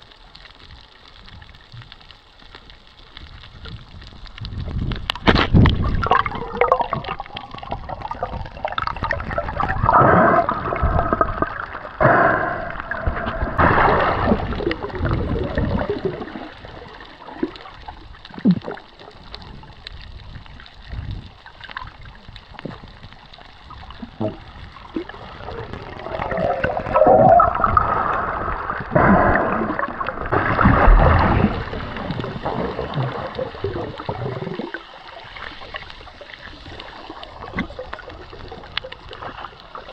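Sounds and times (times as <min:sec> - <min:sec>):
sea water sloshing and splashing: 0:00.0 - 0:39.9.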